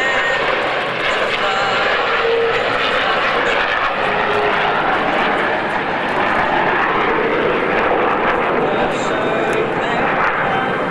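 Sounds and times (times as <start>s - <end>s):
aircraft engine rushing: 0.0s - 10.9s.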